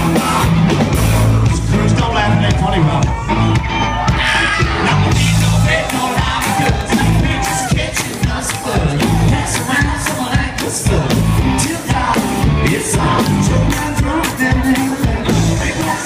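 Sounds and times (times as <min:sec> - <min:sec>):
bass guitar: 0:00.0 - 0:16.0
drums: 0:00.0 - 0:16.0
electric guitar: 0:00.0 - 0:16.0
lead singer: 0:00.0 - 0:16.0.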